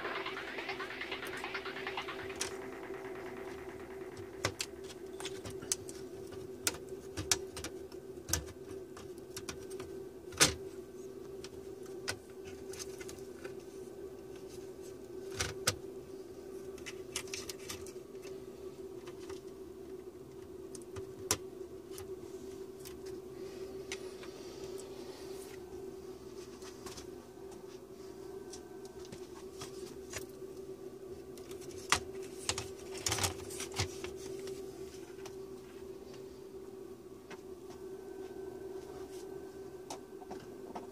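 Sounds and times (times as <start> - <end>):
faint hum: 0.0 - 40.9.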